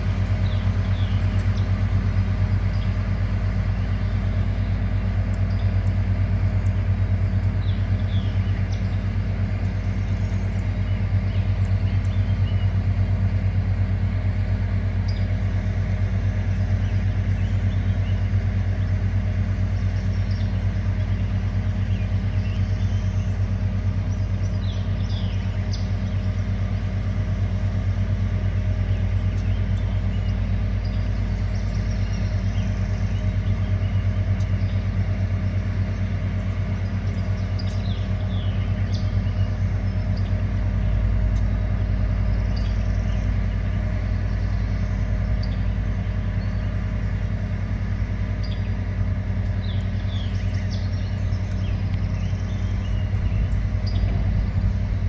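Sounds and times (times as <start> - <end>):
ferry engine droning: 0.0 - 55.0
small birds chirping: 0.0 - 55.0.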